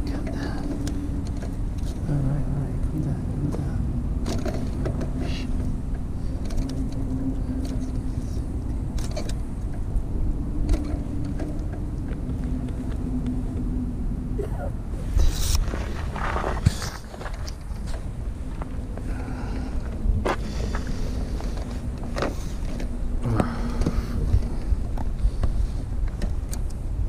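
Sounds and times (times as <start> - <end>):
handling clicks and rustles: 0.0 - 2.1, 3.3 - 13.7, 15.2 - 26.9.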